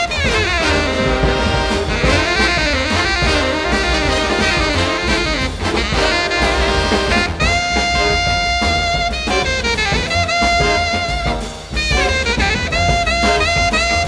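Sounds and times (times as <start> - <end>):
drum kit: 0.0 - 14.0
saxophone and brass melody: 0.0 - 14.0.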